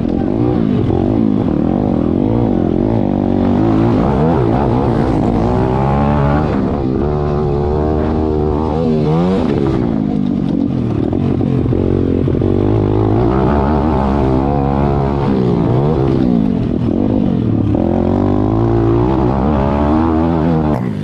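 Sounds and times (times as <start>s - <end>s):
small motorcycle engines revving: 0.0s - 21.0s.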